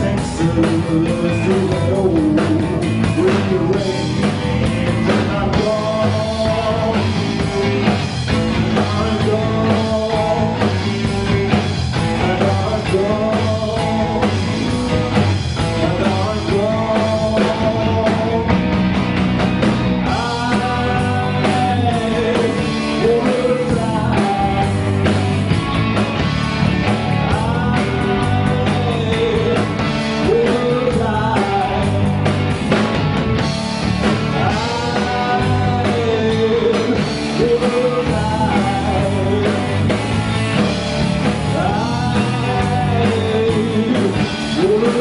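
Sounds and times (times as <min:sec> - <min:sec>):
person singing: 0:00.0 - 0:18.7, 0:20.0 - 0:25.1, 0:27.1 - 0:32.2, 0:34.3 - 0:45.0
guitar: 0:00.0 - 0:45.0
live blues band playing: 0:00.0 - 0:45.0.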